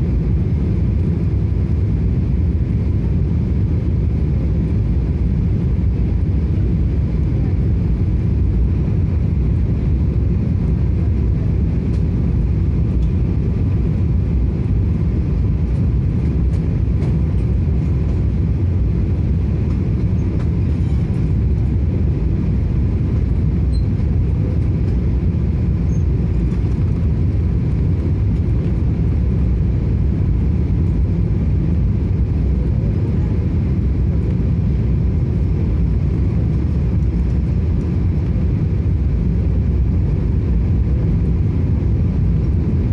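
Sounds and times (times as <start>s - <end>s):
airplane engine rumble in cabin: 0.0s - 42.9s
faint constant whine: 0.0s - 42.9s.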